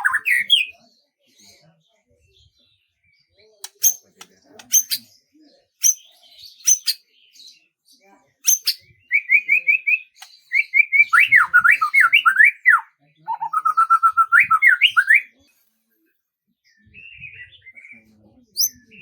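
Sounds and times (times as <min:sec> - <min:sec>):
songbird singing: 0:00.0 - 0:01.8, 0:02.5 - 0:15.5, 0:16.6 - 0:19.0.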